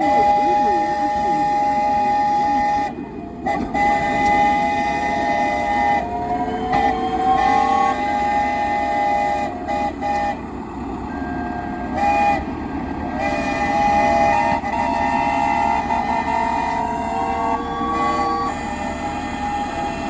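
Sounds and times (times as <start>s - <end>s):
steam engine whistles blowing: 0.0s - 20.0s.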